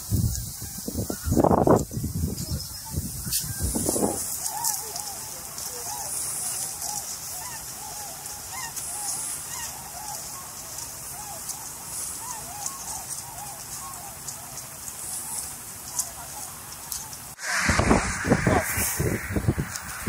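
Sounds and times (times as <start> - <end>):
steady hiss: 0.0 - 20.0
waterbirds calling: 0.0 - 20.0.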